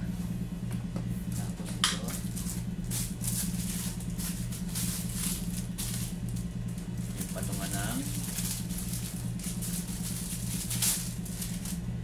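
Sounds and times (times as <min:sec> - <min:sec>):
steady low hum: 0:00.0 - 0:12.0
plastic bag rustling: 0:02.1 - 0:12.0.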